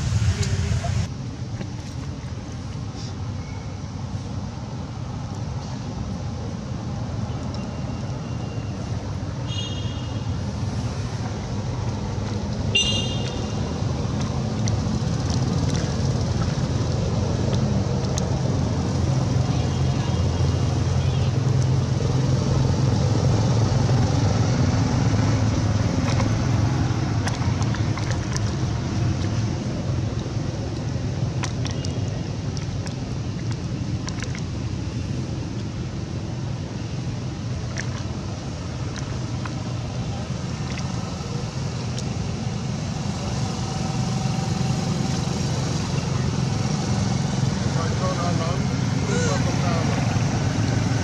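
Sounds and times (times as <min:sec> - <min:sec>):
low outdoor rumble: 0:00.0 - 0:08.2, 0:10.1 - 0:51.0.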